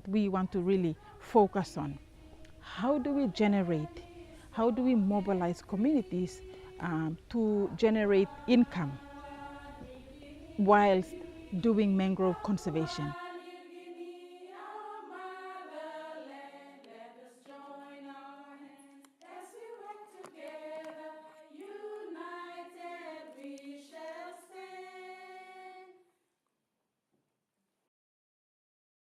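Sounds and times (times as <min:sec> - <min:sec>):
choir singing unaccompanied: 0:00.1 - 0:26.1.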